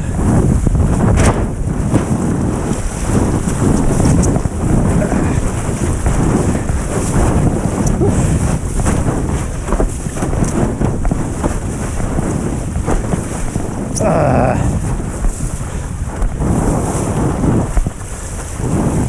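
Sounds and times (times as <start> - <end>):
water rushing and splashing: 0.0 - 19.0
wind buffeting microphone: 0.0 - 19.0.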